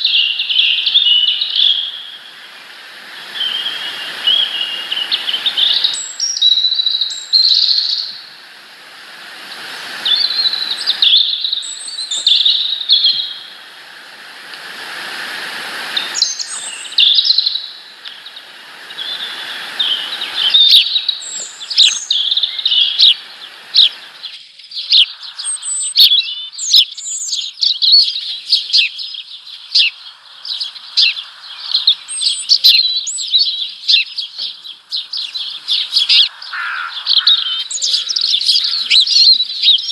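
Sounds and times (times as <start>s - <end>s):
small birds chirping: 0.0s - 8.4s, 9.4s - 13.7s, 15.8s - 39.9s.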